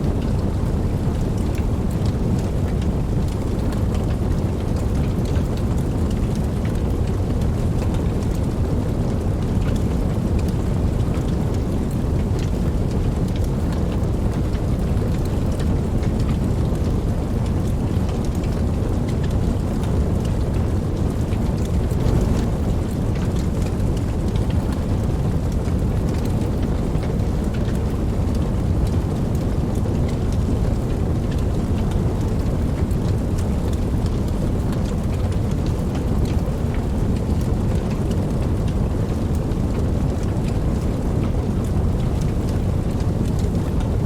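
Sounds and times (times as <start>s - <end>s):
raindrop ticks: 0.0s - 44.0s
steady rain hiss: 0.0s - 44.0s.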